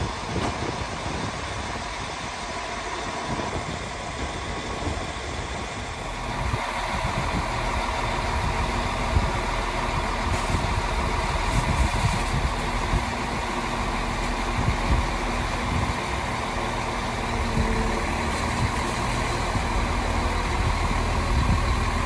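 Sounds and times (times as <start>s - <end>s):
train engine running: 0.0s - 22.0s.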